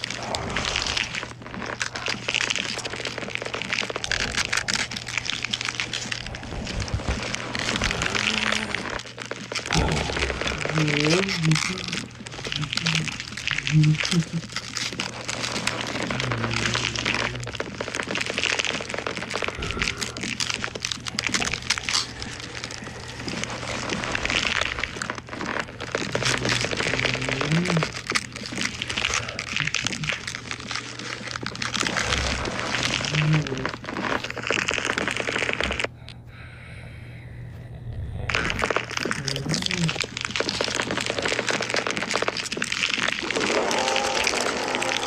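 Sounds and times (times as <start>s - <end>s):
low vocal sounds: 0.0s - 34.4s, 35.0s - 42.2s, 43.0s - 45.0s
bones cracking and crackling: 0.0s - 36.3s, 37.5s - 45.0s
steady low hum: 0.0s - 42.3s.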